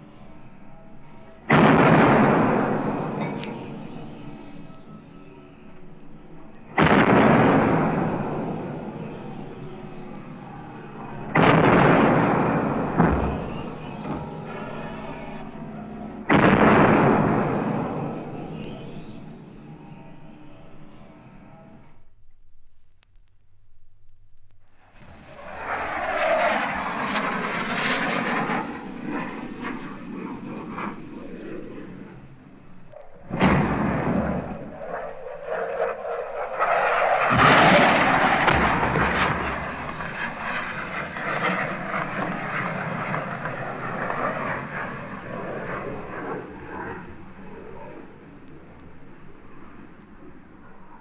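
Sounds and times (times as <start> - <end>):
military aircraft roar: 0.0 - 21.7, 25.0 - 51.0.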